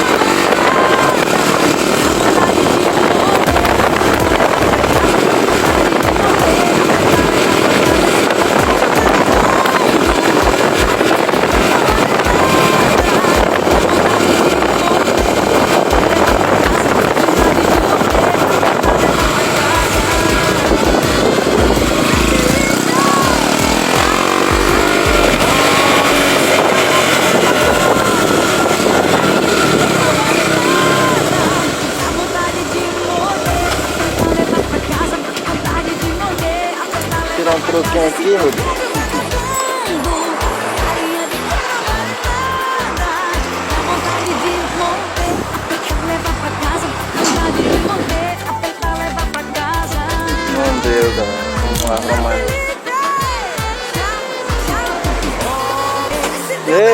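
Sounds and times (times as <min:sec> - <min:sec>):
low pulses: 0:00.0 - 0:52.8
motorcycle engine running: 0:00.0 - 0:56.9
rushing wind noise: 0:00.0 - 0:56.9.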